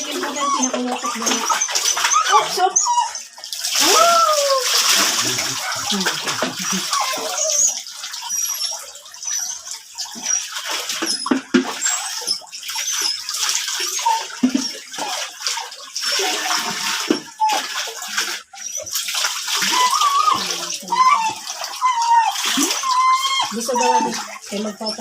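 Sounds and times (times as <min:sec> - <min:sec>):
water splashing and pouring: 0:00.0 - 0:25.0.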